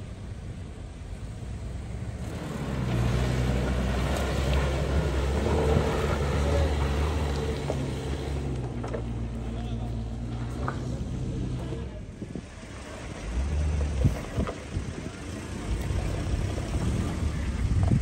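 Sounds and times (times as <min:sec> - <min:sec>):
car engine pulling under load: 0:00.0 - 0:18.0.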